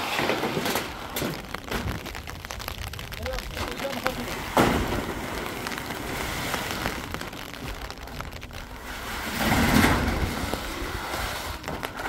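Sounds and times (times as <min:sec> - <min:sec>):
metal roofing sheet scraping: 0:00.0 - 0:02.6, 0:03.6 - 0:12.0.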